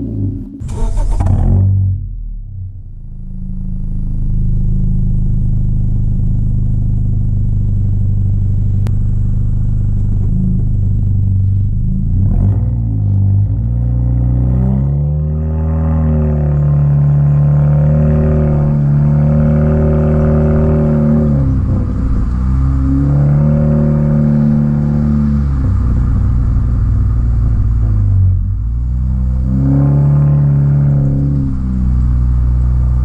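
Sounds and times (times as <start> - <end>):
car engine running: 0.0 - 33.0.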